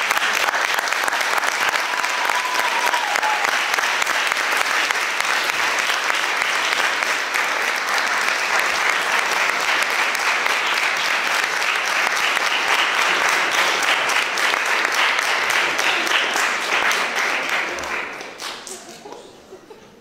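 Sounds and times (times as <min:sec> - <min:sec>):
audience applauding: 0:00.0 - 0:19.3.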